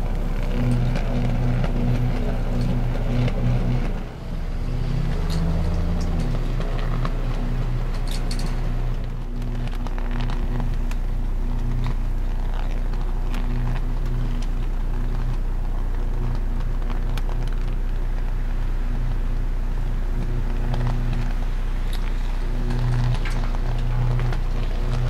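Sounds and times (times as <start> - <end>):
electrical arc crackles and snaps: 0.0 - 25.0
loud low mains buzz: 0.0 - 25.0.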